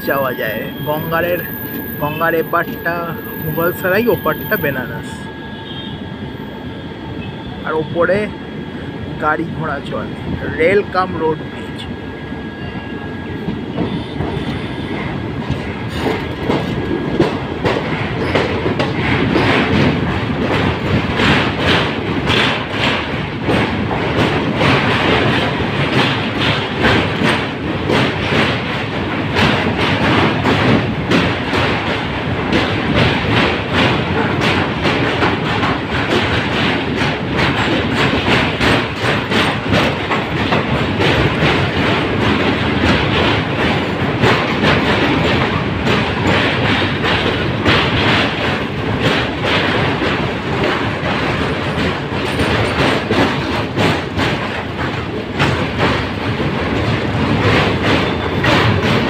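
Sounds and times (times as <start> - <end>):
train wheels clattering: 0.0 - 6.0, 9.2 - 59.0
rumbling rush of train: 0.0 - 59.0.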